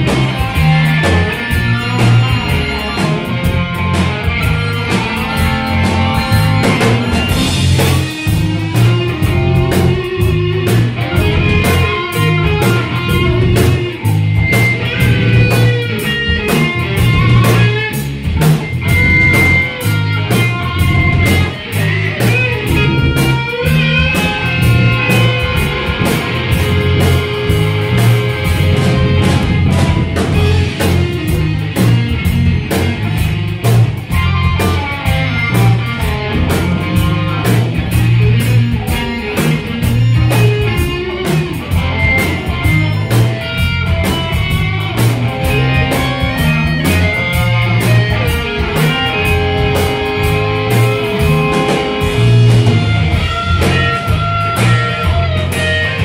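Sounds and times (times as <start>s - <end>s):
bass guitar: 0.0s - 56.0s
drum kit beat: 0.0s - 56.0s
electric guitars: 0.0s - 56.0s.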